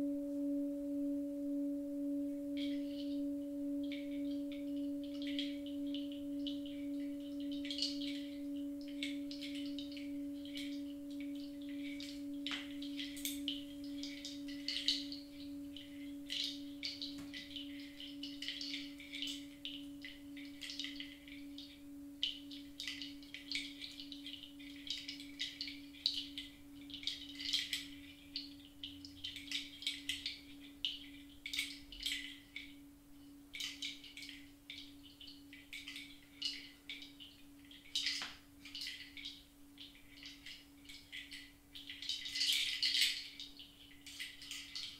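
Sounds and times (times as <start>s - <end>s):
faint high chirps and clicks: 0.0s - 44.9s
singing bowl ringing: 0.0s - 44.9s.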